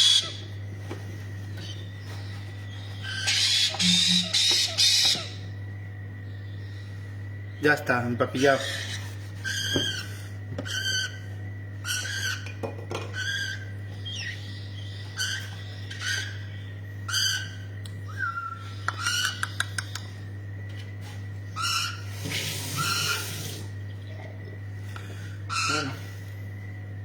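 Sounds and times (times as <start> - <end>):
parrot chicks calling: 0.0 - 20.4, 21.4 - 23.9, 25.3 - 26.1
low steady hum: 0.0 - 27.0.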